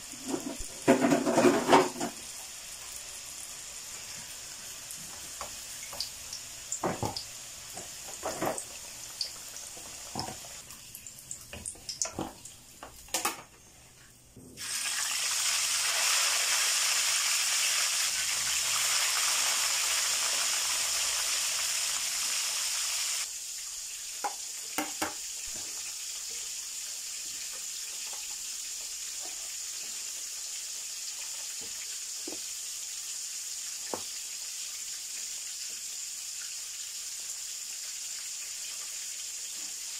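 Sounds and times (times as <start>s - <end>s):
fish frying in hot oil: 0.0s - 12.7s, 14.6s - 39.9s
oil sizzling in frying pan: 0.0s - 13.4s, 14.6s - 39.9s.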